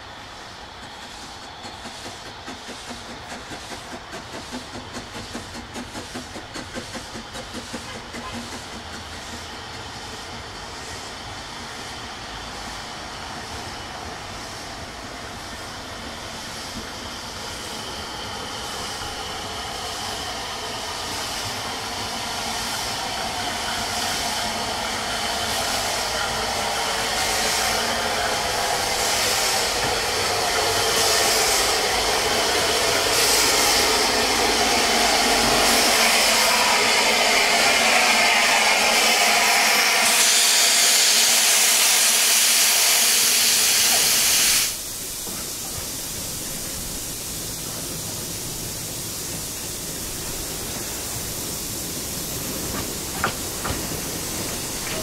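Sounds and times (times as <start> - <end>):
steam train exhaust beats: 0.0 - 55.0
steam train rushing hiss: 0.0 - 55.0.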